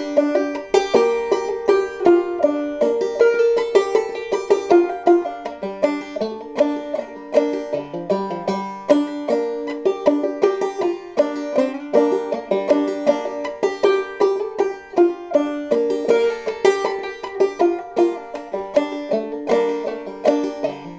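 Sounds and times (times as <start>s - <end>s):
banjo plucked notes: 0.0s - 20.9s.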